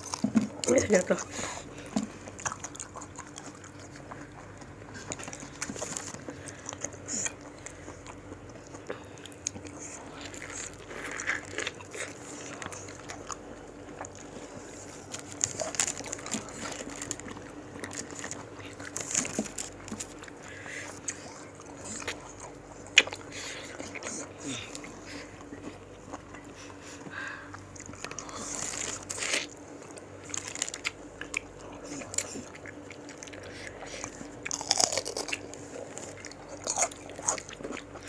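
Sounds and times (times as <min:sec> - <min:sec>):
people chewing wet mouth sounds: 0:00.0 - 0:38.0
crisp crunches of biting: 0:02.0 - 0:24.9, 0:27.5 - 0:38.0.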